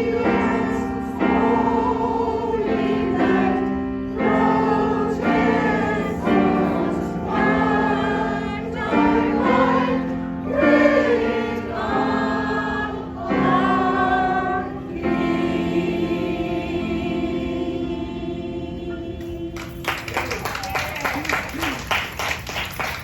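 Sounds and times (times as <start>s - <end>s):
choir singing slow song: 0.0s - 20.0s.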